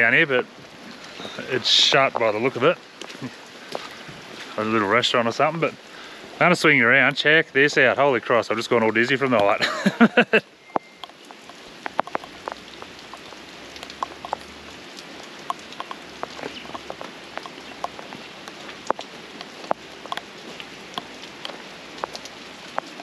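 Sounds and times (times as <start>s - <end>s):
rain falling steadily: 0.0s - 23.0s
raindrops tapping: 0.0s - 23.0s.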